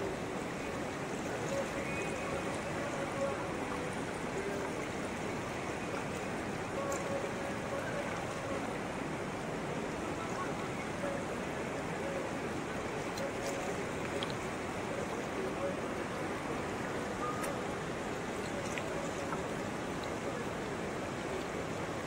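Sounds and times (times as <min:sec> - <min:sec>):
fast river rushing: 0:00.0 - 0:22.0.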